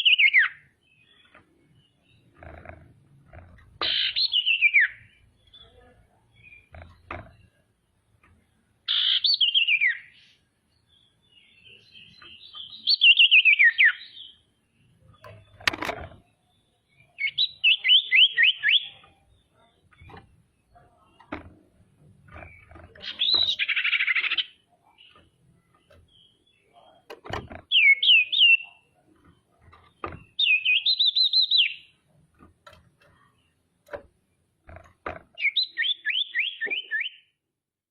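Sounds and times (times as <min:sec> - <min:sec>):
bird singing chirping phrases: 0:00.0 - 0:07.8, 0:08.8 - 0:32.0, 0:34.8 - 0:37.4.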